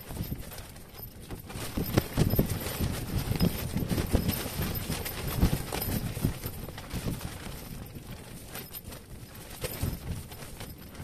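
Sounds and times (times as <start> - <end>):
tent fabric flapping in wind: 0.0 - 11.0.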